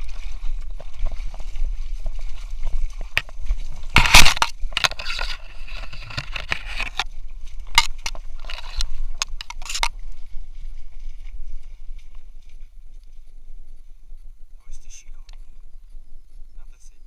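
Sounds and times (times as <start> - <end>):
grass swishing against camera: 0.0 - 15.9.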